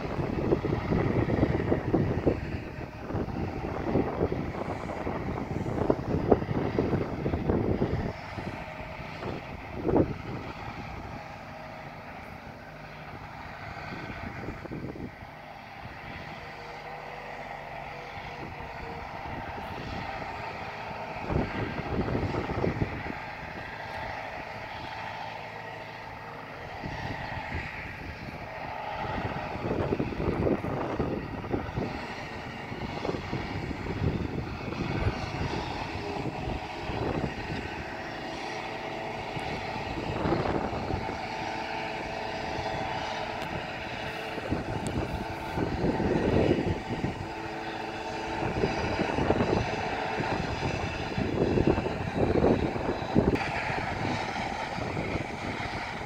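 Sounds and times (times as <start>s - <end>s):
rushes of slurry spraying: 0.0s - 56.0s
tractor engine running: 0.0s - 56.0s.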